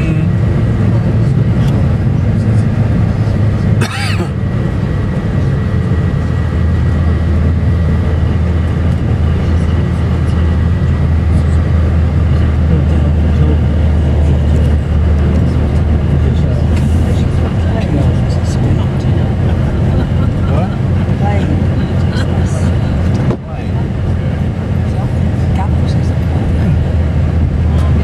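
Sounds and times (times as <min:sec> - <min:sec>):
loud low engine drone: 0:00.0 - 0:28.0.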